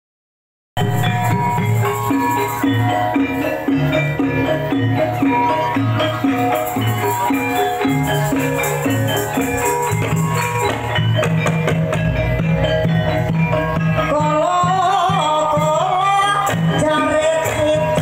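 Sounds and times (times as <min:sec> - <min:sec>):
drums: 0:00.8 - 0:18.0.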